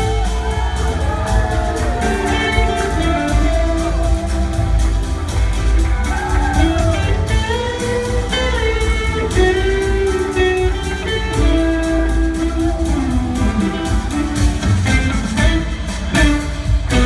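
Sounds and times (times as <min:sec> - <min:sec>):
bass guitar: 0:00.0 - 0:17.0
electric guitar sliding lead: 0:00.0 - 0:17.0
steady drum beat: 0:00.0 - 0:17.0.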